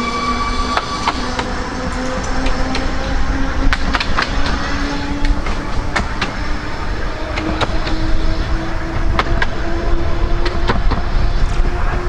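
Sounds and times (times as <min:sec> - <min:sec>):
tram rumble: 0:00.0 - 0:12.0
wheels clicking on rails: 0:00.0 - 0:12.0.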